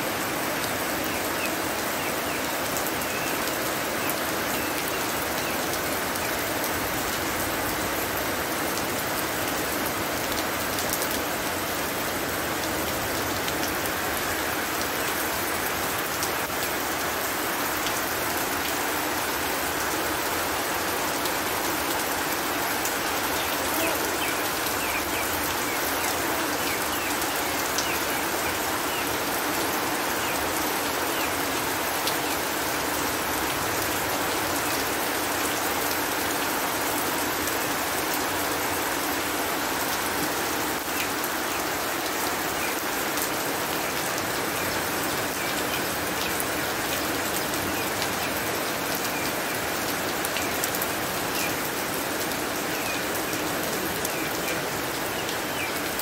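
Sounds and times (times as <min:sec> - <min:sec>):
heavy rain on water: 0:00.0 - 0:56.0.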